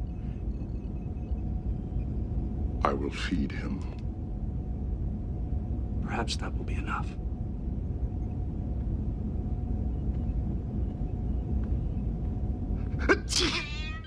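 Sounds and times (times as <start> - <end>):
faint held tone: 0.0 - 12.8
low ambient rumble: 0.0 - 14.0.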